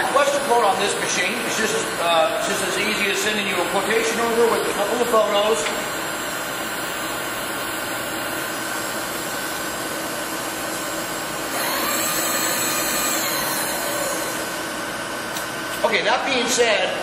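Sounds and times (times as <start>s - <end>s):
milling machine motor whine: 0.0s - 16.0s
machine shop hum: 0.0s - 17.0s.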